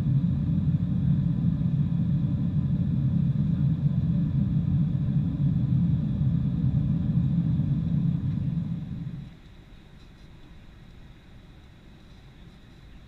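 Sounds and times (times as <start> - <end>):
jet airliner rumble: 0.0 - 13.0.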